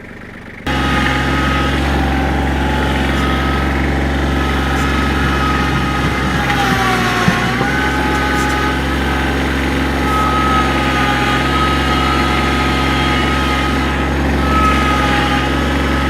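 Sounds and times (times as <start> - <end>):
diesel tractor engine running: 0.0 - 16.0
engine knock: 0.0 - 16.0
engine whine: 0.0 - 16.0.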